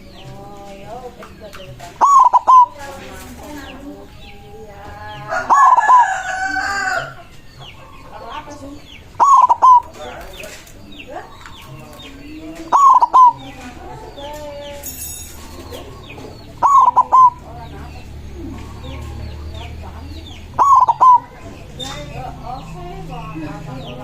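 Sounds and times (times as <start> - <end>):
dove cooing staccato notes: 0.0 - 24.0
small birds chirping: 0.0 - 24.0.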